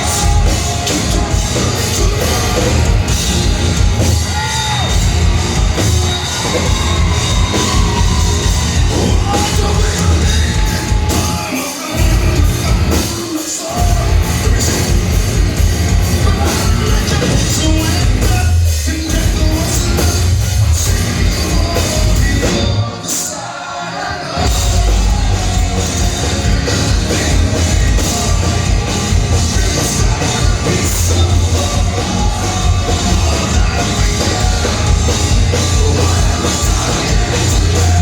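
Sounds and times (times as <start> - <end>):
live heavy rock band playing: 0.0 - 38.0
person singing: 0.0 - 38.0.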